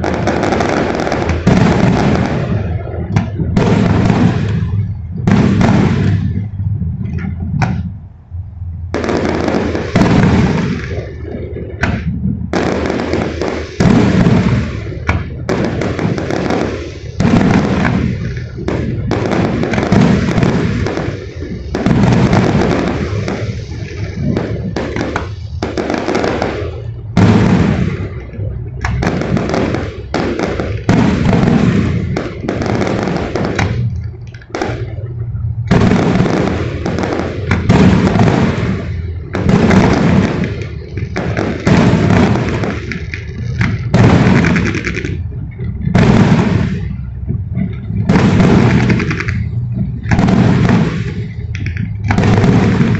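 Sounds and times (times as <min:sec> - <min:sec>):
fireworks bursting: 0:00.0 - 0:52.9
low rumble: 0:00.0 - 0:52.9.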